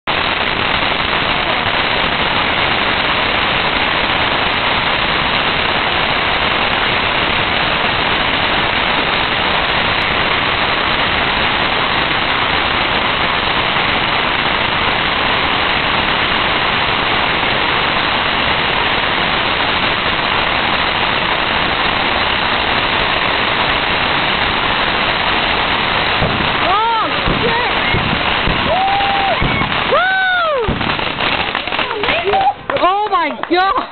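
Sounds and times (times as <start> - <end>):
firework fountains hissing: 0.0 - 33.9.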